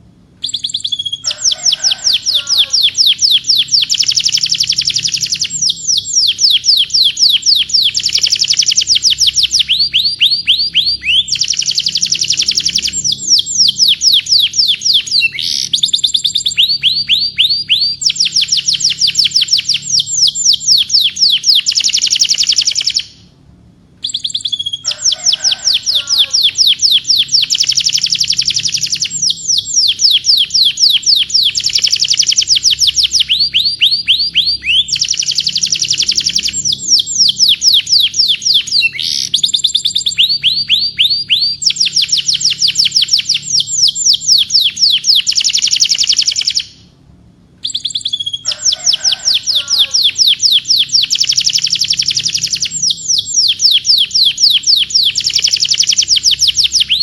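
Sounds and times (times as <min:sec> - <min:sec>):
canary singing trills: 0:00.0 - 0:23.3, 0:24.0 - 0:46.9, 0:47.6 - 0:57.0.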